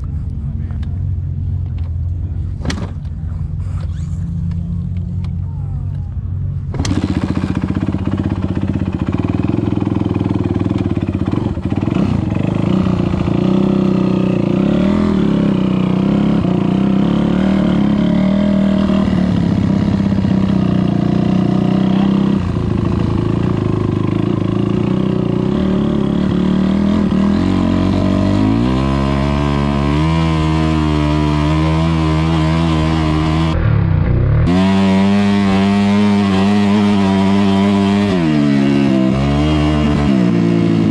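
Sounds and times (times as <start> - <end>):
dirt bike engine idling and revving: 0.0 - 40.9.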